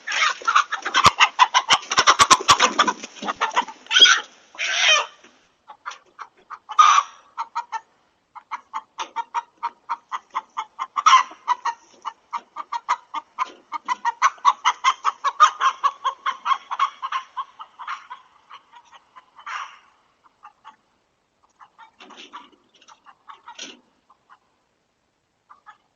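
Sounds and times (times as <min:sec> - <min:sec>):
chicken squawks: 0:00.0 - 0:20.8, 0:21.4 - 0:24.5, 0:25.5 - 0:25.9
chickens clucking rapidly: 0:00.0 - 0:24.7, 0:25.4 - 0:25.9.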